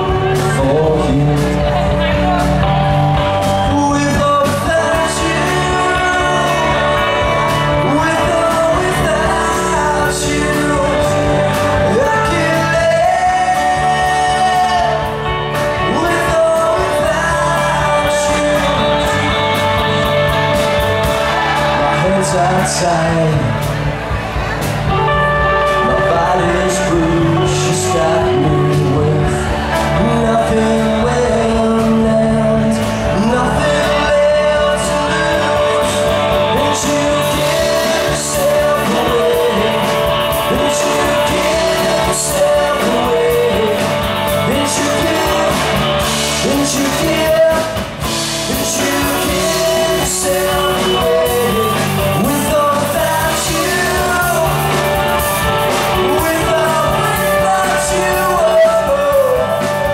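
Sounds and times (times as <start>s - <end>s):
man singing: 0.0s - 23.8s, 24.9s - 59.9s
rock band playing: 0.0s - 59.9s.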